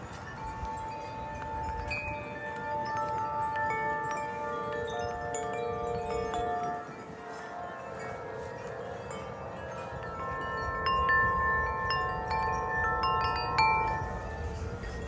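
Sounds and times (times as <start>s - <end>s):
low rumble of wind: 0.0s - 15.0s
metal wind chimes ringing: 0.0s - 15.0s.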